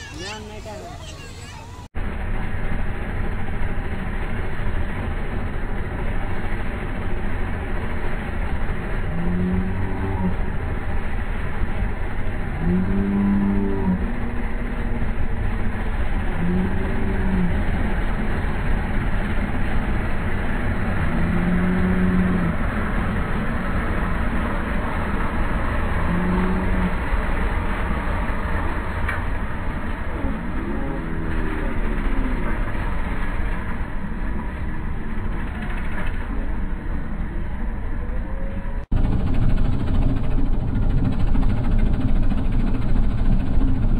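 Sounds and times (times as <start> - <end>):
diesel engines running under load: 0.0 - 43.9.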